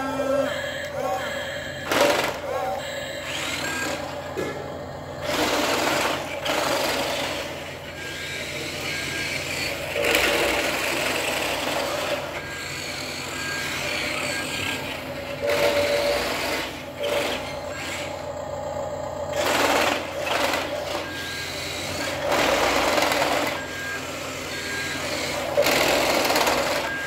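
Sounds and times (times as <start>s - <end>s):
toy truck motor whining: 0.0s - 27.0s.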